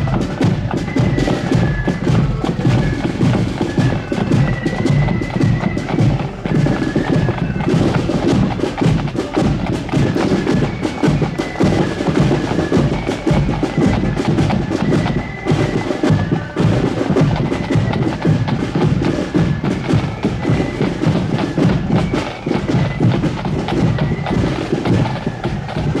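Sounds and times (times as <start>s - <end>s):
accordion melody: 0.0s - 26.0s
snare and bass drums: 0.0s - 26.0s.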